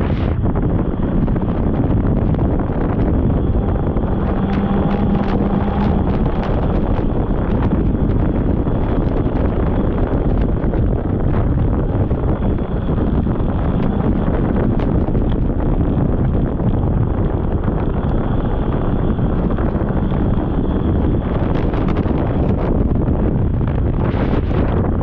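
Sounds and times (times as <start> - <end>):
snowmobile engine running: 0.0 - 25.0
wind buffeting on microphone: 0.0 - 25.0.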